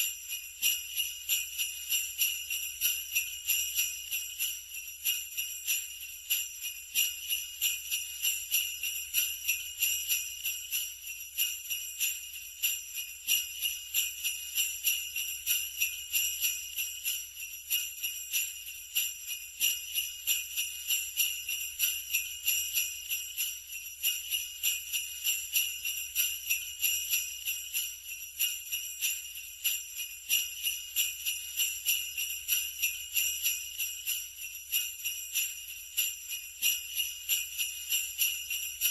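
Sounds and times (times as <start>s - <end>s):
sleigh bells jingling: 0.0s - 38.9s.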